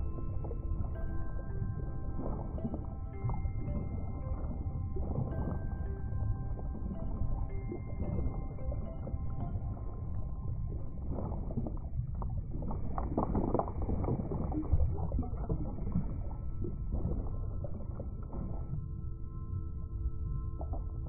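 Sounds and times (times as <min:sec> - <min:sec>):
bubbling: 0:00.0 - 0:19.3
muffled underwater rumble: 0:00.0 - 0:21.0.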